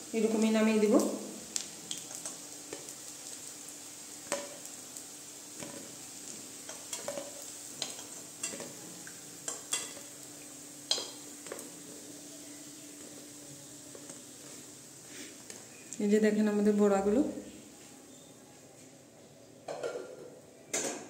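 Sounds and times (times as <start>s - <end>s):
faint frying sizzle: 0.0s - 21.0s.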